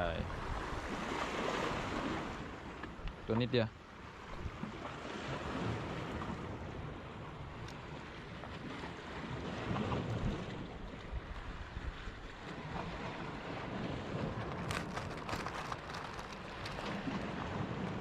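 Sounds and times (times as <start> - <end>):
wind buffeting microphone: 0.0 - 3.5, 4.2 - 18.0
sea waves washing: 0.0 - 18.0.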